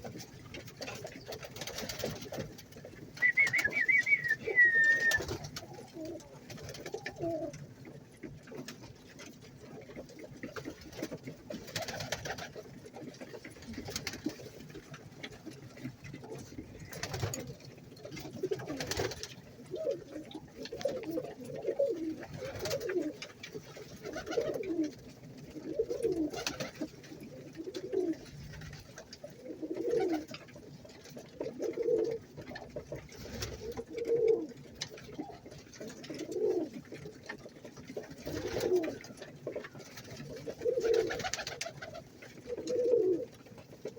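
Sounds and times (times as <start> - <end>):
pigeons cooing: 0.0 - 43.9.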